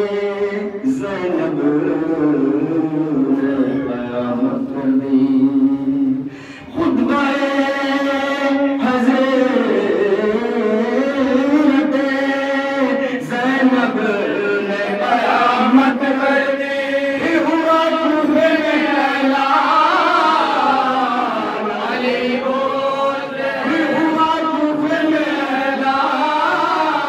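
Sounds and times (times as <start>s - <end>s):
man chanting a lament: 0.0s - 27.0s.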